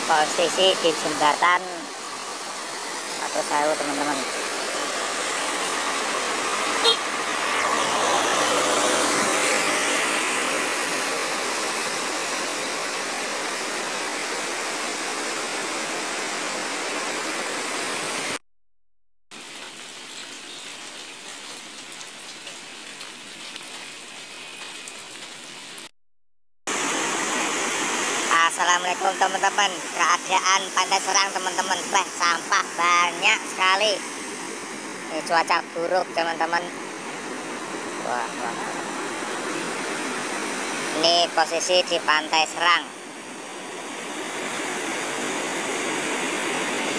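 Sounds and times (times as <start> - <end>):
rushing water: 0.0 - 18.4, 19.3 - 25.9, 26.7 - 46.9.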